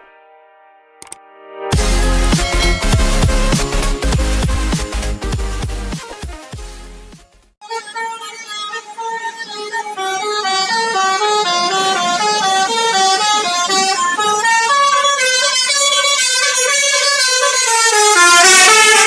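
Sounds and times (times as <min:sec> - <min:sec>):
musical air horn melody: 0:01.7 - 0:06.0, 0:07.6 - 0:19.0.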